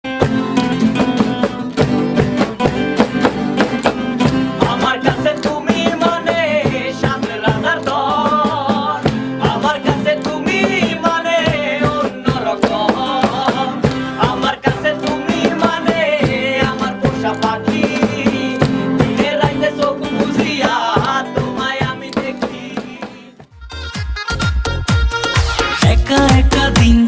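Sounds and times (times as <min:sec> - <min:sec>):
music with quick steady beat: 0:00.1 - 0:27.0.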